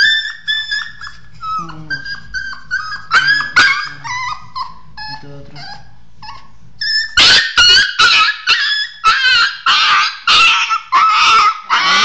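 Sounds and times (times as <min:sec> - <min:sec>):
puppy yelping and crying: 0:00.0 - 0:12.0.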